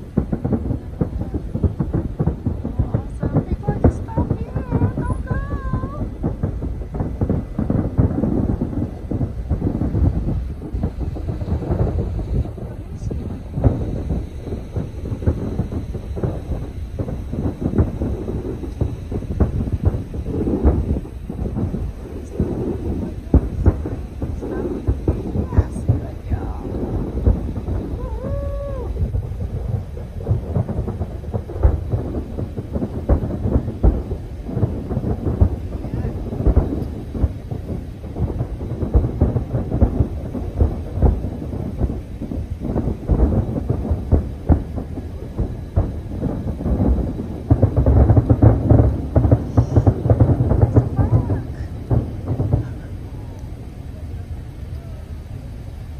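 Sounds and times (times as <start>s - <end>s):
fireworks booming: 0.0s - 55.9s.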